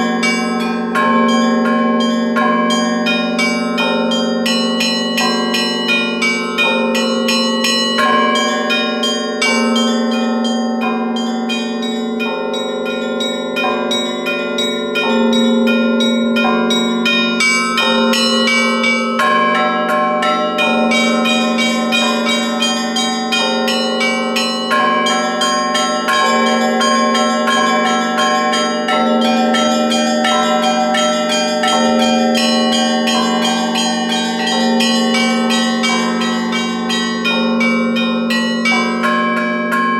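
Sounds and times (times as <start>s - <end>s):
deep bell ringing: 0.0s - 39.9s
small church bells pealing: 0.0s - 39.9s.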